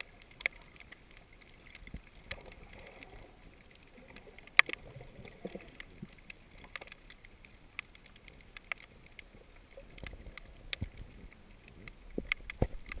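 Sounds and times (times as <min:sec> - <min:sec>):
low water rumble: 0:00.0 - 0:13.0
sharp clicks and crackles underwater: 0:00.0 - 0:13.0.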